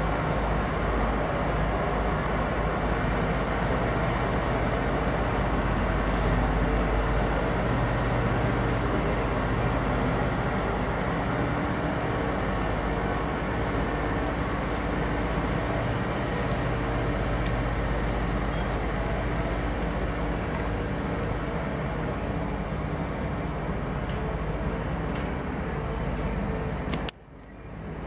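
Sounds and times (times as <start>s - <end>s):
diesel engine running: 0.0s - 27.1s.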